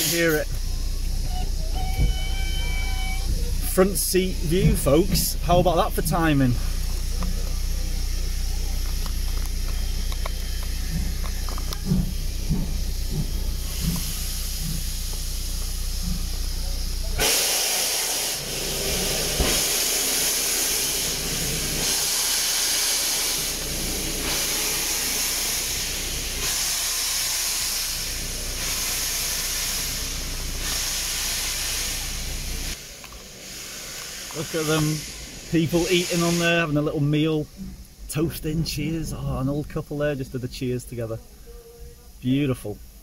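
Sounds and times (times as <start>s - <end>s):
steam locomotive rumble and beats: 0.0s - 41.2s
escaping steam hiss: 0.0s - 43.0s.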